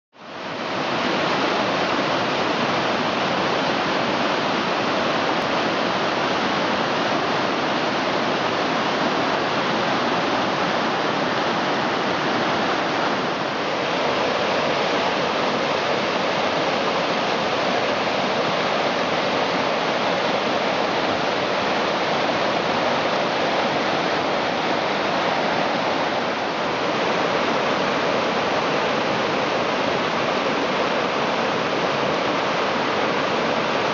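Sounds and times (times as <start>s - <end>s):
creek rushing over rocks: 0.3s - 33.9s.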